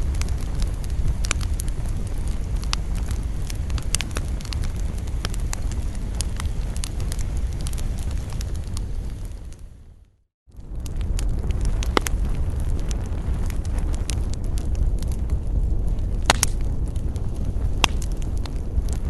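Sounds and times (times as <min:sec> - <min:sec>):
campfire low rumble: 0:00.0 - 0:19.0
fire crackles and pops: 0:00.0 - 0:19.0.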